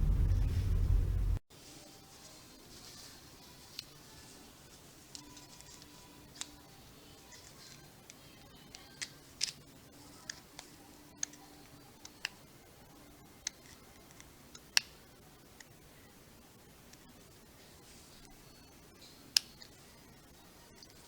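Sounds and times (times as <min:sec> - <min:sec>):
faint steady background noise: 0:00.0 - 0:21.0.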